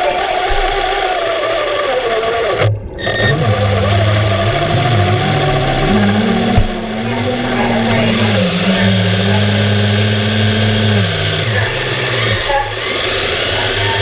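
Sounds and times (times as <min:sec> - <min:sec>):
electric thruster motors whining: 0:00.0 - 0:14.0.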